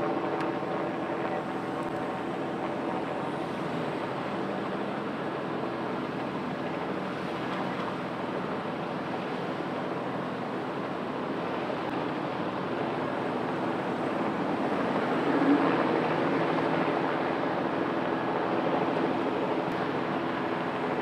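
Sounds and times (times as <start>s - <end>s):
helicopter drone overhead: 0.0s - 21.0s.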